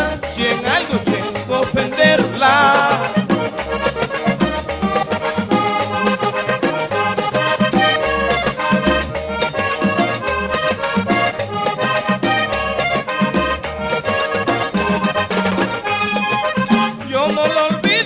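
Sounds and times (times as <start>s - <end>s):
bass guitar: 0.0s - 18.0s
button accordion: 0.0s - 18.0s
hand percussion: 0.0s - 18.0s.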